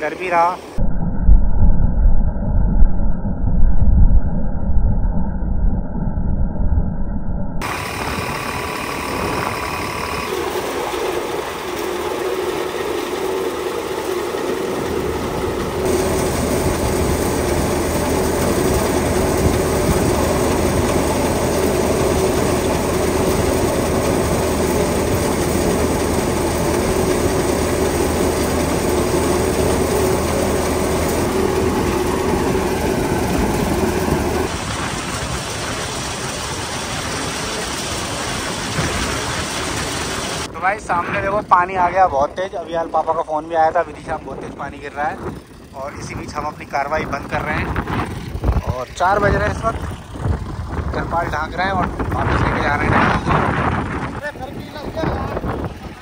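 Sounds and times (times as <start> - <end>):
low drone: 0.2 - 54.2
tractor engine driving thresher: 7.6 - 56.0.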